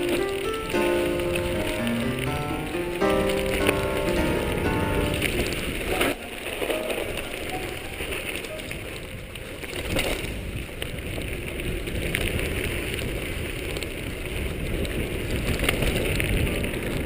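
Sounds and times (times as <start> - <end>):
bike tyres rumbling on trail: 0.0 - 17.0
wind buffeting microphone: 3.0 - 17.0.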